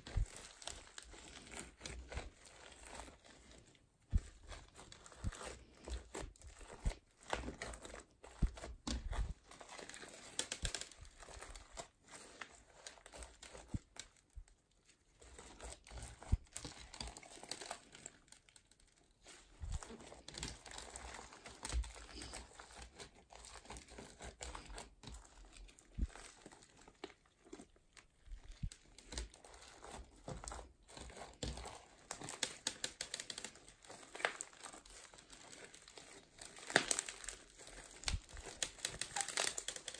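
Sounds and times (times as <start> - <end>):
slime crackling and popping: 0.0 - 14.4, 15.1 - 39.9.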